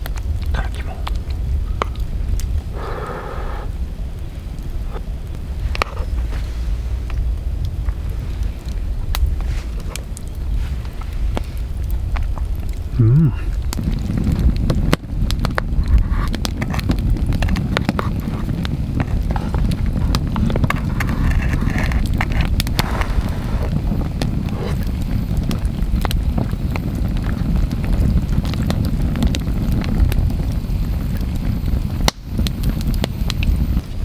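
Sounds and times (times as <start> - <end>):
campfire crackling and popping: 0.0 - 34.0
low rumble: 0.0 - 34.0.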